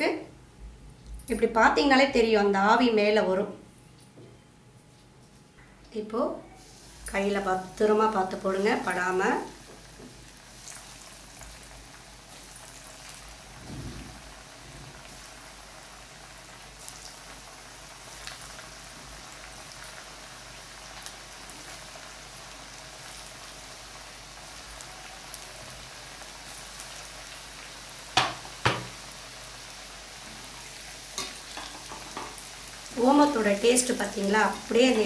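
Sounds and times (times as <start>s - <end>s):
deep-frying sizzle with crackles: 6.0s - 35.0s.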